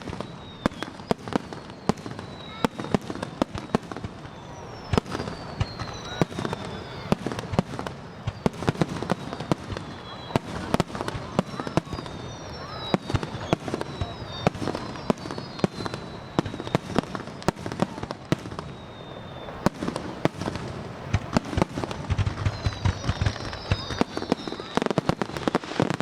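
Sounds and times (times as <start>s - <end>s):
falling firework whistles: 0.0s - 26.0s
fireworks bangs: 0.0s - 26.0s.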